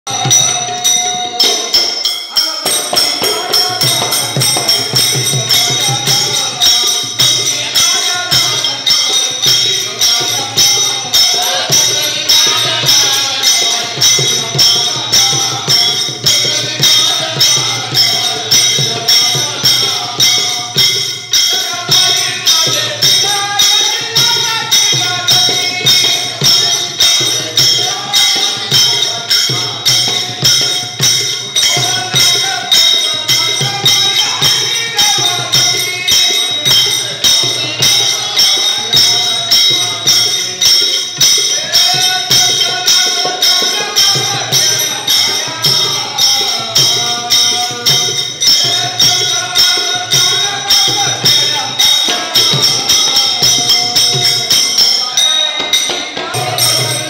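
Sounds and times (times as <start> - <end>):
barrel drum: 0.1 - 57.0
man singing into microphone: 0.1 - 57.0
small hand cymbals ringing: 0.1 - 57.0.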